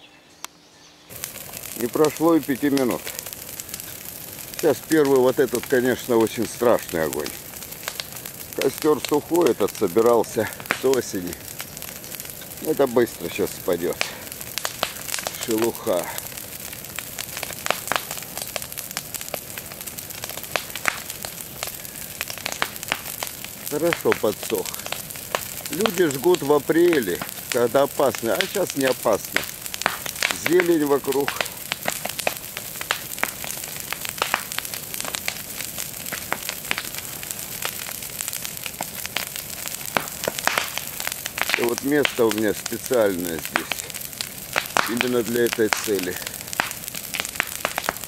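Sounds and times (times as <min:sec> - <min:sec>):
burning wood cracking and popping: 0:01.1 - 0:48.0
hiss of bonfire flames: 0:01.1 - 0:48.0.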